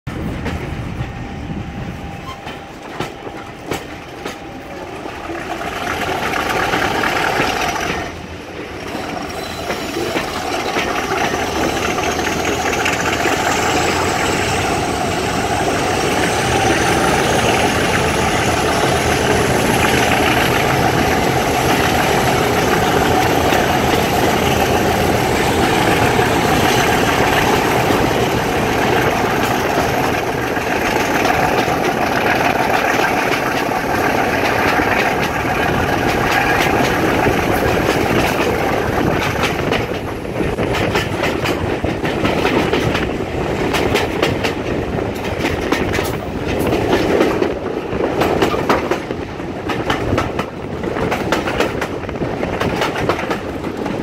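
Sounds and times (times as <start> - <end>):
diesel locomotive engine working: 0.1 - 54.0
rail-joint clicks: 0.1 - 54.0
wheel-on-rail noise: 0.1 - 54.0.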